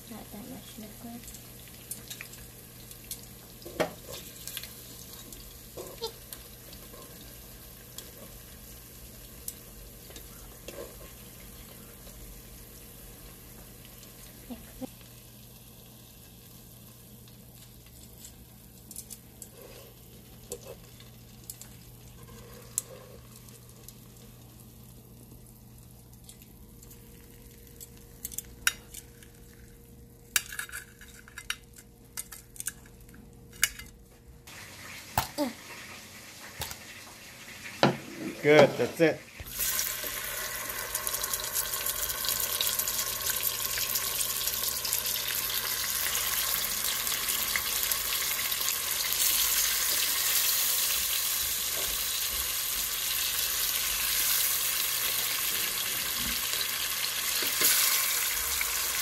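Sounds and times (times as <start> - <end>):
fish sizzling in hot oil: 0.0 - 25.6, 34.5 - 37.8, 38.4 - 59.0.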